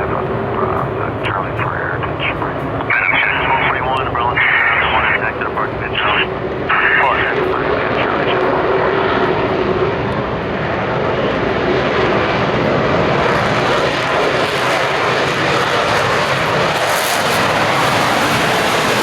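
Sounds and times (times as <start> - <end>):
jet engine roaring on takeoff: 0.0 - 19.0.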